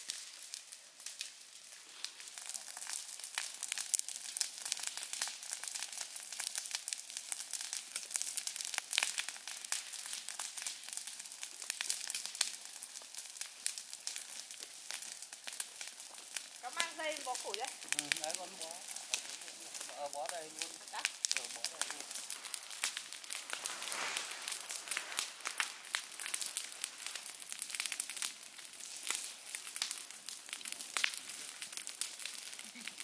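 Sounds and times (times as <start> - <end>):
dense crackling: 0.0 - 33.0.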